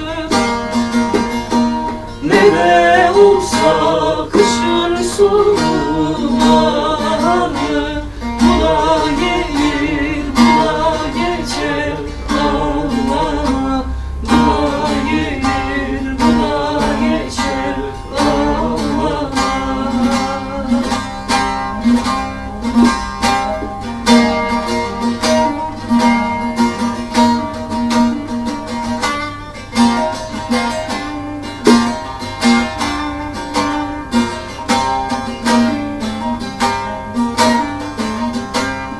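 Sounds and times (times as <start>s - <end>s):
plucked string instrumental music: 0.0s - 38.9s.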